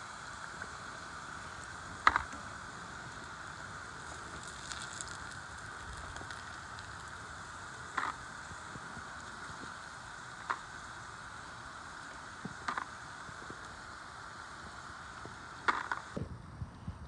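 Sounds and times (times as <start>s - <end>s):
meat frying in oil: 0.0s - 16.2s.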